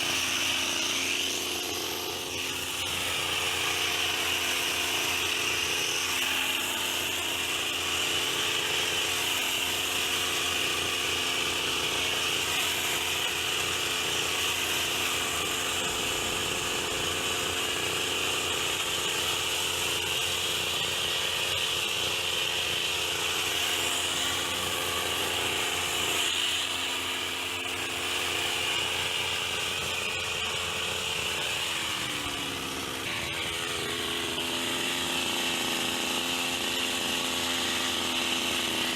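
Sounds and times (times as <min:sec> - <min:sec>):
hedge trimmer engine running: 0:00.0 - 0:38.9.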